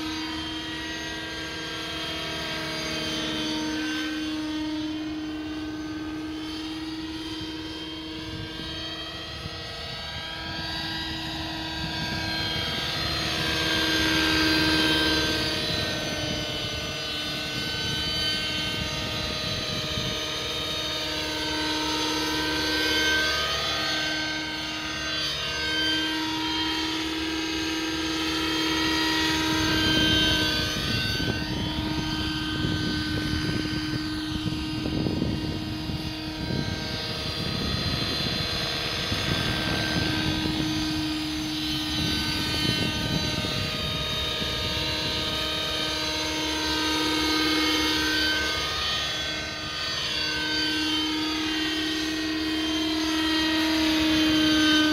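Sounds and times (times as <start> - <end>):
model helicopter engine whine: 0.0 - 54.9.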